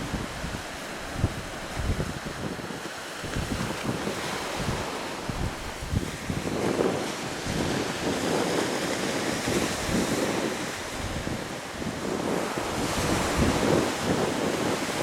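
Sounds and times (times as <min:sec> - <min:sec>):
small waves washing on sand: 0:00.0 - 0:15.0
wind buffeting microphone: 0:00.0 - 0:15.0.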